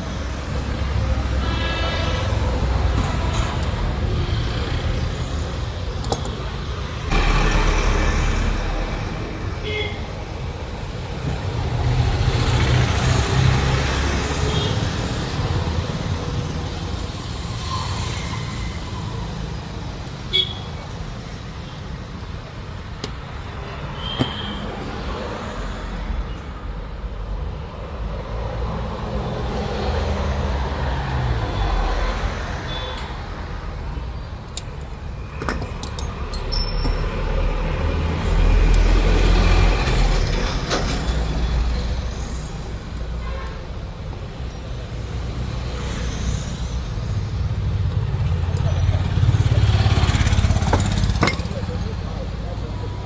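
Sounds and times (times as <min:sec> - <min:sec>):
vehicle engines passing: 0:00.0 - 0:53.0.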